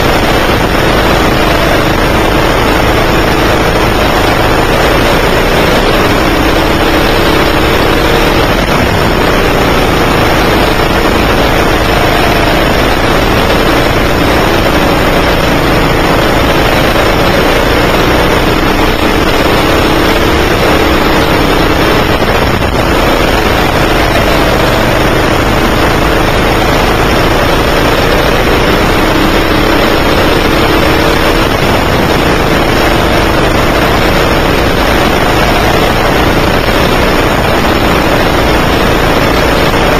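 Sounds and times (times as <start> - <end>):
go-kart engine revving: 0.0 - 39.9
loud rushing noise: 0.0 - 39.9.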